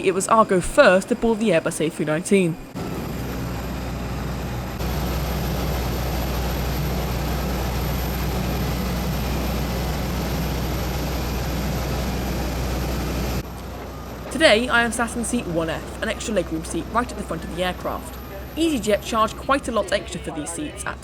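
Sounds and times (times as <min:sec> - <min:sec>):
aircraft low drone and hiss: 0:00.0 - 0:21.0.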